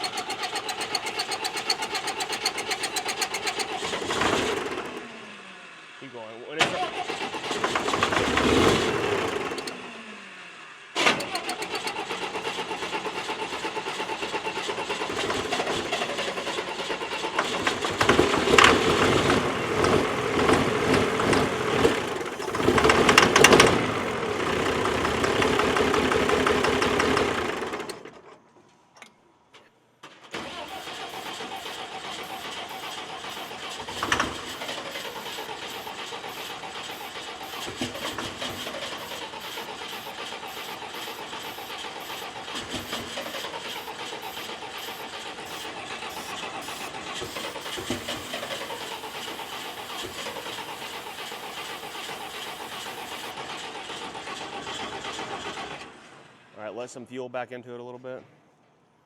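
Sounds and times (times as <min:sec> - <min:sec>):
diesel engine cranking on starter: 0:00.0 - 0:28.6, 0:30.0 - 0:56.7.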